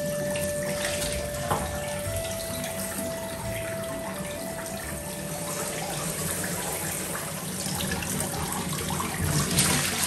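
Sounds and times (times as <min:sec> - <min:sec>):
water running from a hose: 0:00.0 - 0:10.0.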